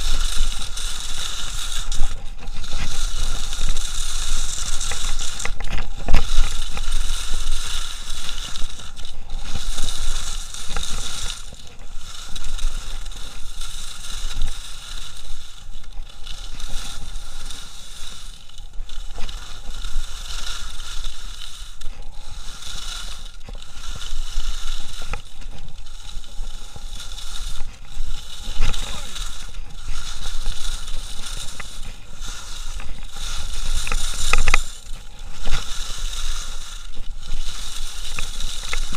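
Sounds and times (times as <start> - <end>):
skis scraping on hard snow: 0.0 - 38.9.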